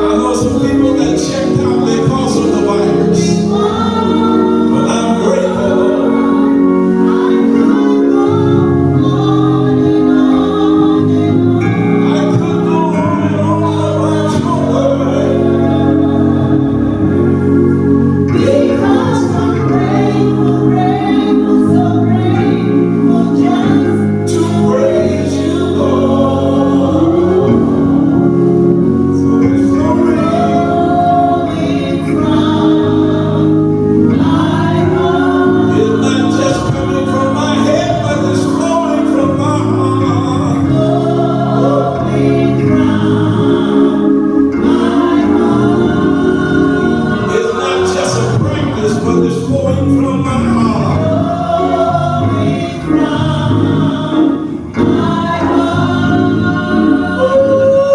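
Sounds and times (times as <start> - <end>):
gospel choir singing: 0.0 - 57.9
organ accompaniment: 0.0 - 57.9.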